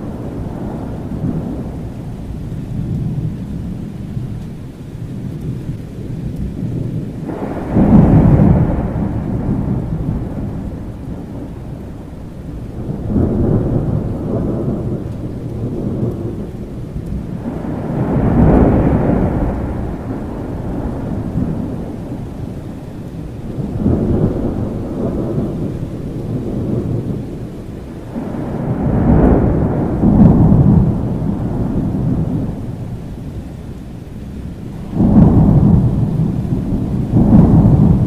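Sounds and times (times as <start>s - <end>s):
steady rain: 0.0s - 38.0s
thunder rumbling: 0.0s - 38.0s.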